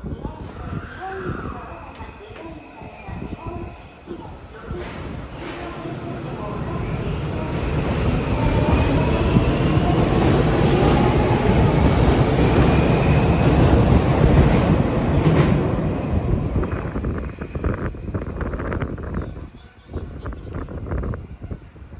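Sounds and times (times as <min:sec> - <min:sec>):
train wheel and track rumble: 0:00.0 - 0:21.9.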